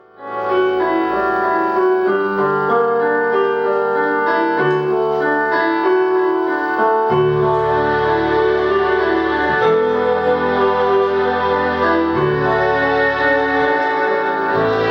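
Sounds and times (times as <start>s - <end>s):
piano chords over bass line: 0.0s - 14.9s.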